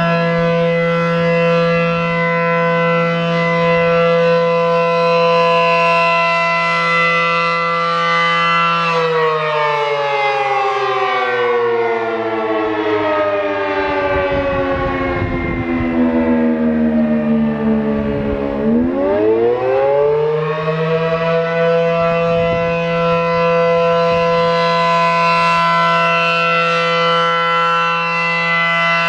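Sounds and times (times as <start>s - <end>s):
warning siren wailing: 0.0s - 29.0s.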